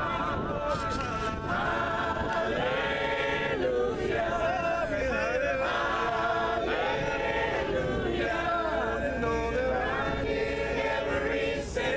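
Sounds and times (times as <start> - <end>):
choir singing a hymn: 0.0 - 11.9.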